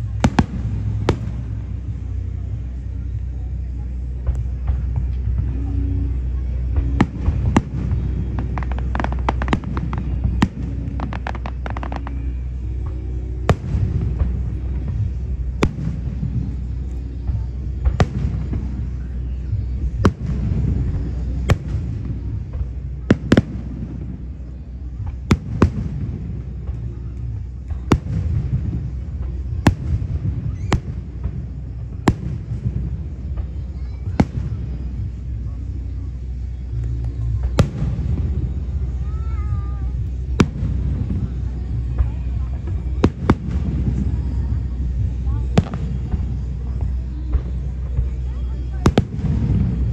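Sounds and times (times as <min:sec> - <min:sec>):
fireworks bangs: 0:00.0 - 0:49.9
fireworks crackling: 0:00.0 - 0:49.9
low rumble: 0:00.0 - 0:49.9.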